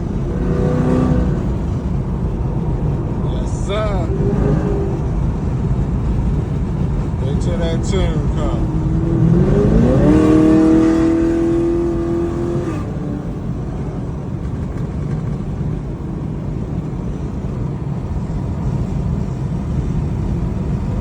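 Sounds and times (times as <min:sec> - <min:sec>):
car engine revving: 0:00.0 - 0:21.0
road noise: 0:00.0 - 0:21.0.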